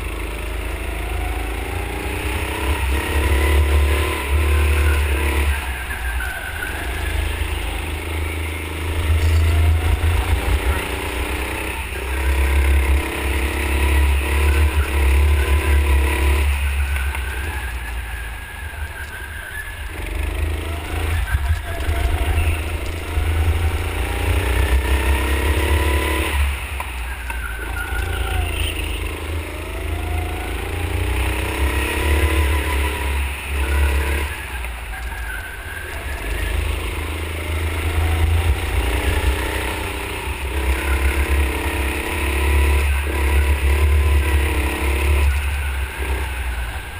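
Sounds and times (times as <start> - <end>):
go-kart motor whine: 0.0 - 46.9.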